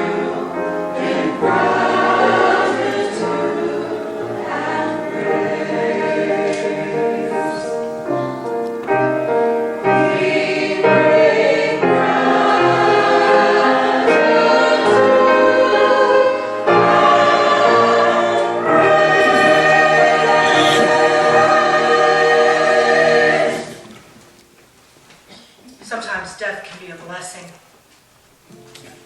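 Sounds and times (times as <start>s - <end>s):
choir singing sustained chords: 0.0s - 24.1s.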